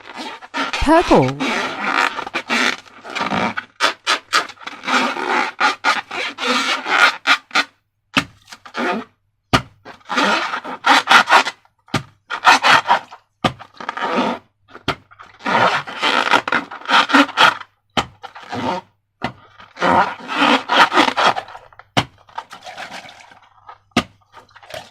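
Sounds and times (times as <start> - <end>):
slime balloons rubbing and scraping: 0.0 - 7.8, 8.6 - 9.2, 9.9 - 11.6, 12.2 - 24.9.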